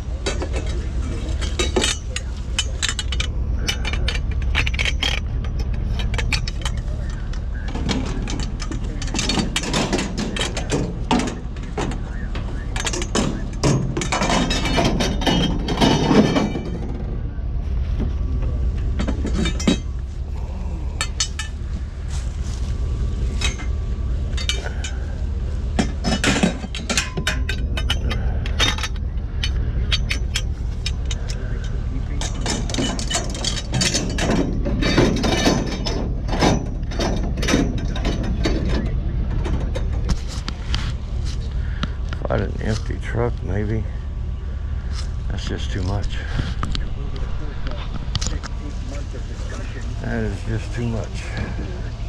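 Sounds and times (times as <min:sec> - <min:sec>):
low rumble: 0:00.0 - 0:52.0
scrap metal clanking: 0:00.0 - 0:52.0.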